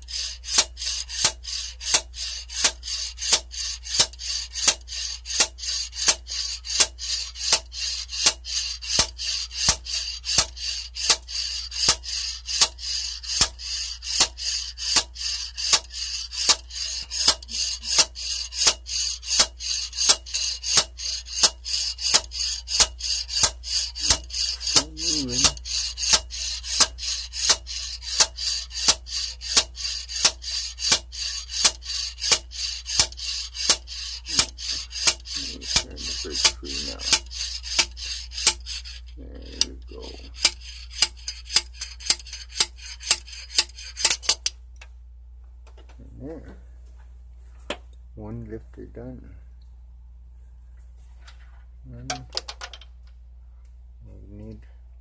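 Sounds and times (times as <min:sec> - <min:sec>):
scraping rasp: 0:00.0 - 0:44.6.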